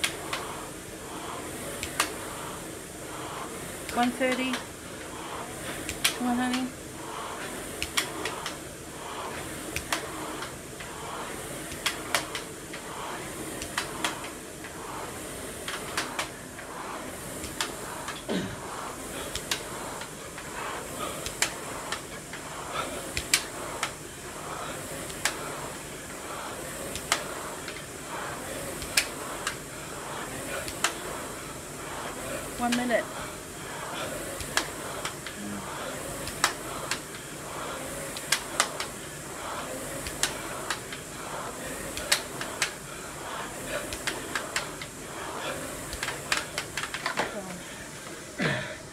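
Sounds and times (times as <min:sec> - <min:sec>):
rowing machine stroke click: 0:00.0 - 0:47.4
rowing machine flywheel whir: 0:00.0 - 0:48.9.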